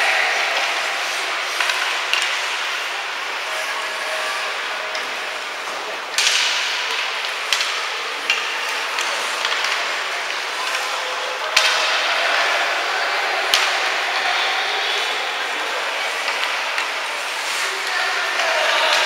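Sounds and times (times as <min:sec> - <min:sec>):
hockey sticks and puck clacking: 0:00.0 - 0:19.0.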